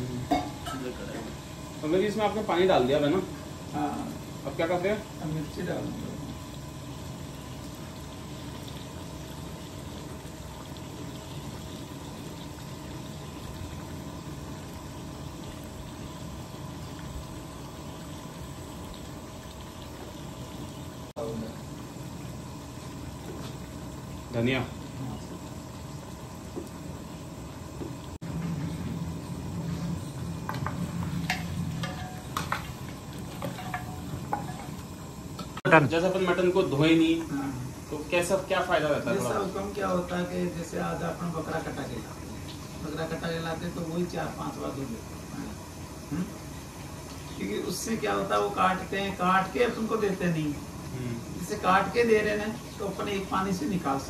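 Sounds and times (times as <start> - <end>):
curry bubbling in a pot: 0.0 - 35.6, 36.3 - 54.0
gas burner low rumble: 0.0 - 54.0
steady low hum: 0.0 - 54.0.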